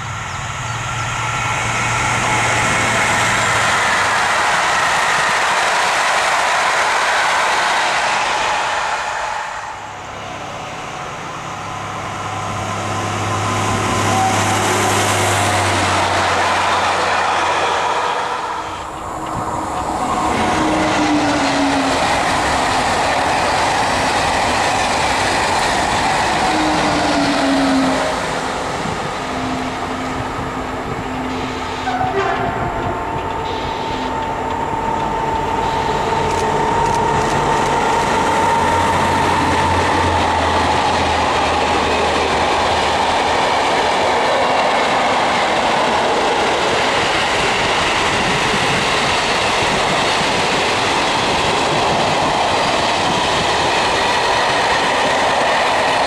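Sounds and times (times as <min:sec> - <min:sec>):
high-speed train rushing past: 0:00.0 - 0:56.0
locomotive-hauled train passing: 0:00.0 - 0:56.0
train noise with low hum: 0:00.0 - 0:56.0.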